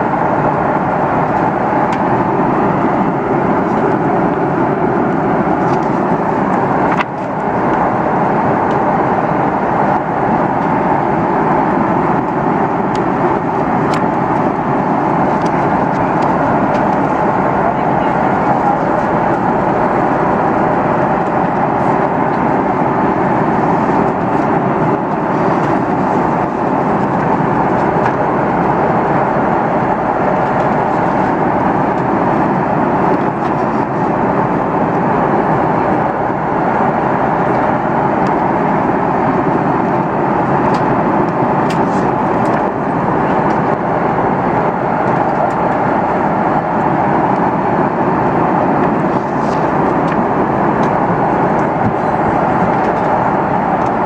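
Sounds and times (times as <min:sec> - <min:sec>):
airliner cabin engine and airflow noise: 0:00.0 - 0:54.0.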